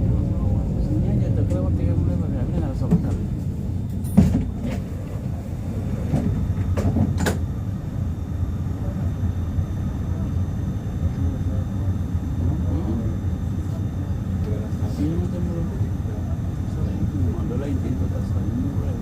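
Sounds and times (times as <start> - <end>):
tram running gear rumble: 0.0 - 19.0
faint high whine: 3.5 - 19.0.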